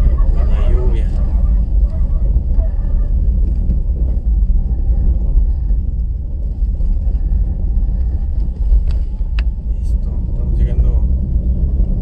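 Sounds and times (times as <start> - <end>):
car driving on dirt road: 0.0 - 12.0.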